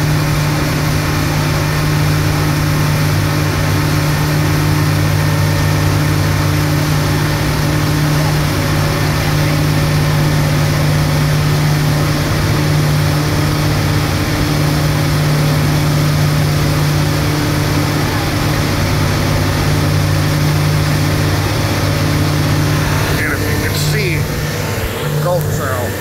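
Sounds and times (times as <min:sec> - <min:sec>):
boat engine running: 0:00.0 - 0:26.0
water rushing: 0:04.6 - 0:26.0.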